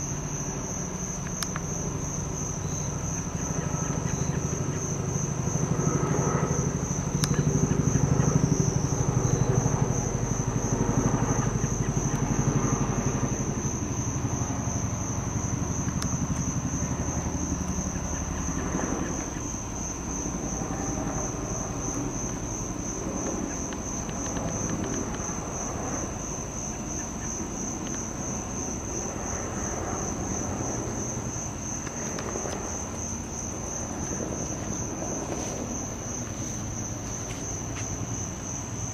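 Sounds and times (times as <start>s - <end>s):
helicopter rotor beat: 0.0s - 38.9s
high-pitched pulsing insect chorus: 0.0s - 38.9s.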